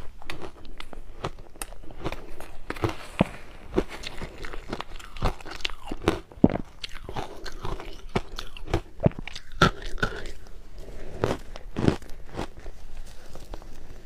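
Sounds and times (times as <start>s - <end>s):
crushed ice being chewed: 0.1s - 14.0s.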